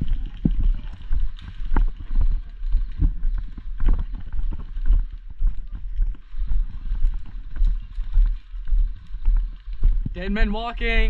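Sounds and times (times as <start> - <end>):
gear clicking and rustling: 0.0 - 10.3
footsteps walking: 0.0 - 11.0
steady low rumble: 0.0 - 11.0.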